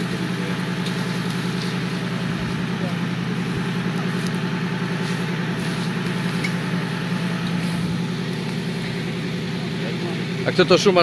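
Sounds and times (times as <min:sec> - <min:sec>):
buggy engine idling: 0:00.0 - 0:11.0.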